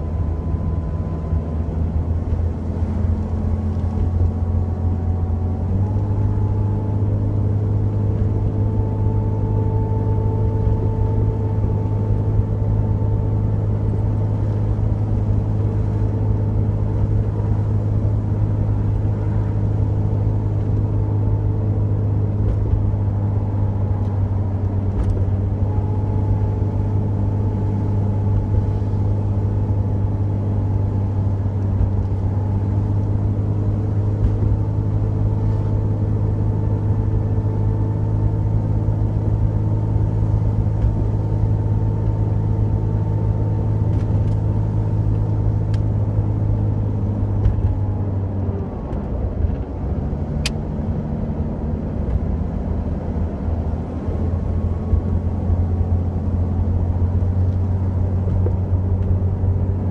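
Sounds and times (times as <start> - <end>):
engine drone inside car: 0.0 - 59.9
tyre road noise: 0.0 - 59.9.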